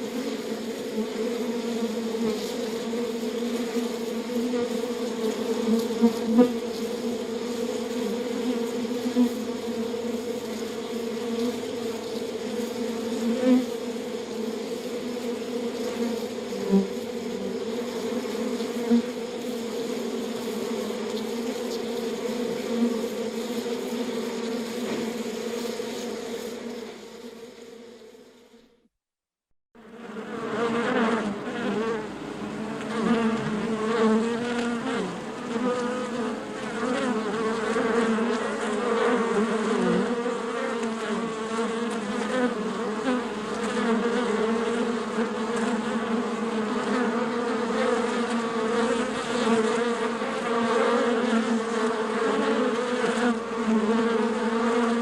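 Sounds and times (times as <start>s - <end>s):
bees buzzing in a hive: 0.0s - 28.8s, 29.8s - 55.0s.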